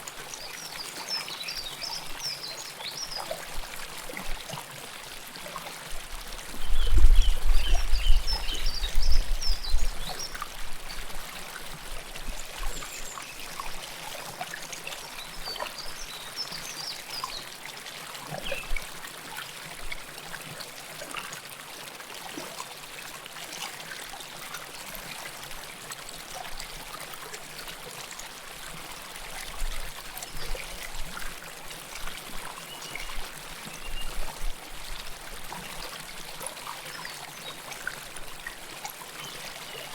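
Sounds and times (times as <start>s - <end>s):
river water flowing and gurgling: 7.4s - 39.9s.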